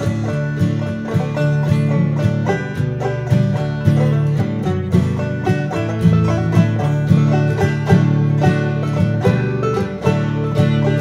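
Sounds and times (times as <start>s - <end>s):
bluegrass music with plucked strings: 0.0s - 11.0s.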